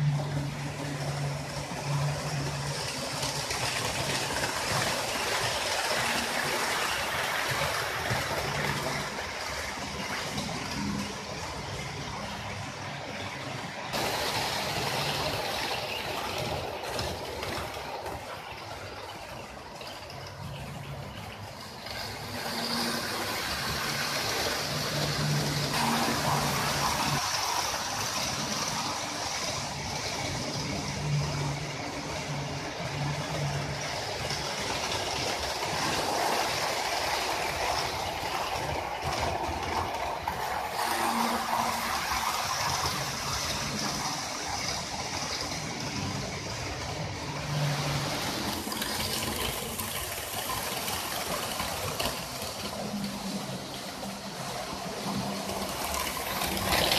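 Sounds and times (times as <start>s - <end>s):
model train whirring rattle: 0.0s - 56.9s.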